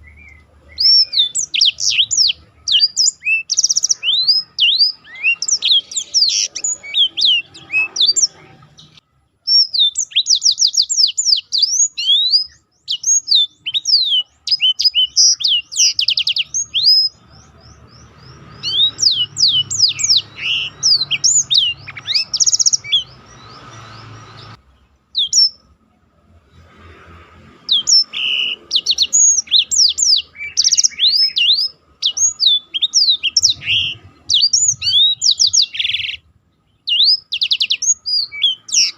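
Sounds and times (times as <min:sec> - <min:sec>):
bird chirps and trills: 0:00.0 - 0:25.8, 0:26.4 - 0:38.9.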